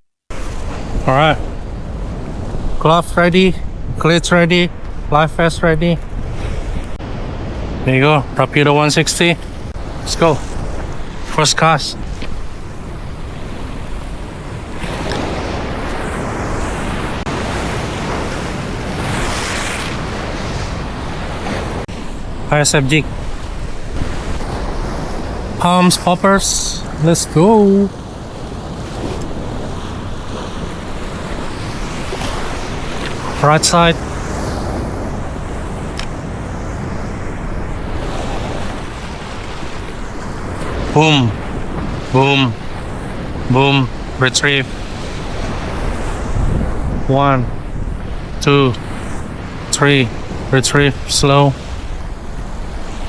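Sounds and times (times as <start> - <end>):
wind buffeting microphone: 0.3 - 4.0, 4.7 - 26.0, 27.9 - 53.0
water noise: 0.3 - 53.0.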